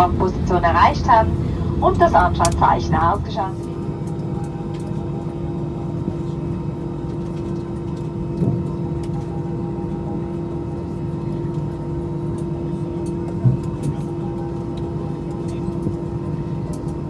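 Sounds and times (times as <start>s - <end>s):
idling jet engines hum: 0.0s - 17.0s.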